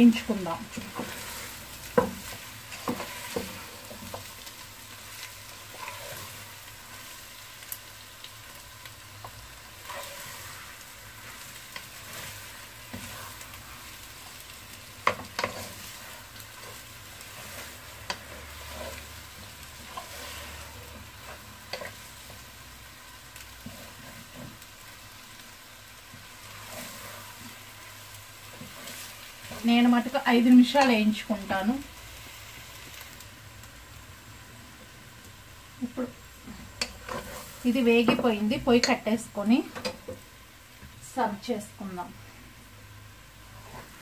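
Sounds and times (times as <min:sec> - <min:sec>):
potatoes sizzling in a pan: 0:00.0 - 0:44.0.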